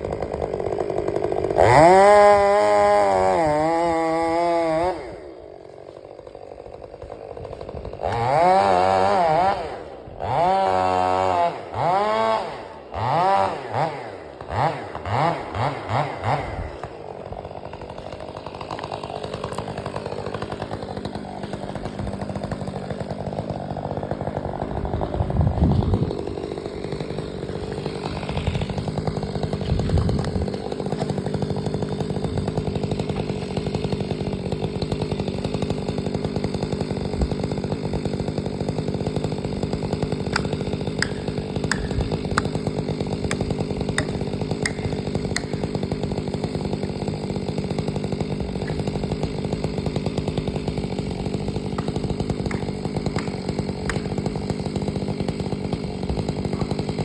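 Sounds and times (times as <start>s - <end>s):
chainsaw running: 0.0s - 57.0s.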